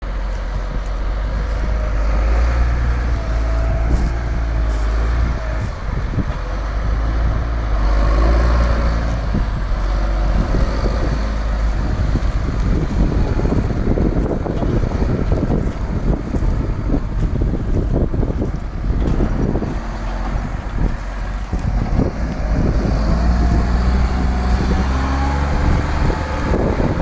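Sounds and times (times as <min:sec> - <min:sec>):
tractor engine running under load: 0:00.0 - 0:27.0.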